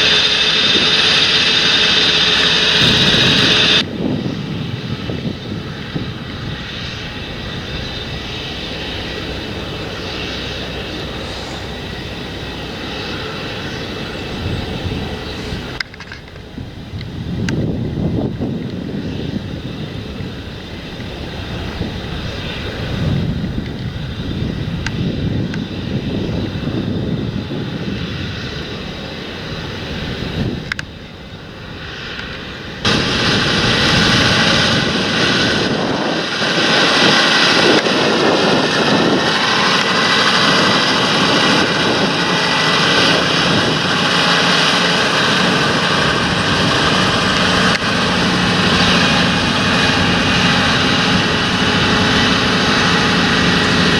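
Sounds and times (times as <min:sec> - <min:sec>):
tractor diesel engine running: 0:00.0 - 0:25.5, 0:26.3 - 0:53.9
wind noise: 0:00.0 - 0:53.9.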